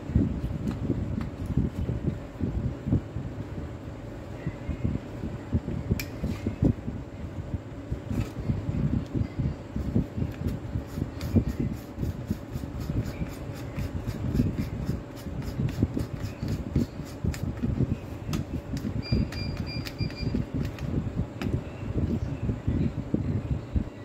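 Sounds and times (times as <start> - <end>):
steady rumbling background: 0.0 - 24.0.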